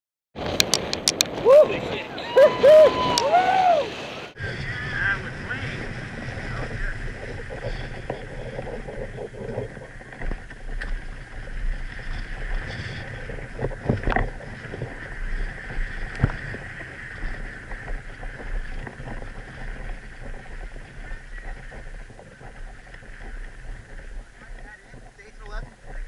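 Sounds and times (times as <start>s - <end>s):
bike tyre noise and rattle: 0.4s - 26.0s
wind rush on microphone: 0.4s - 26.0s.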